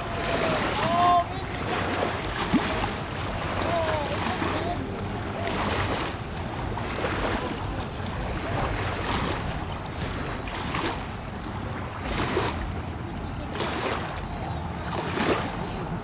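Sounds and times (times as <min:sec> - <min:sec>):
river water lapping: 0:00.0 - 0:16.0
wind buffeting microphone: 0:00.0 - 0:16.0.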